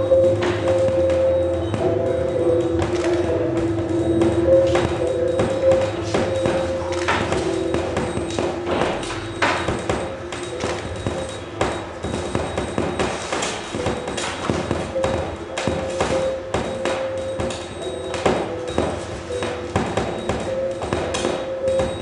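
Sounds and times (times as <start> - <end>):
held low notes: 0.0 - 22.0
percussive knocks and taps: 0.3 - 22.0.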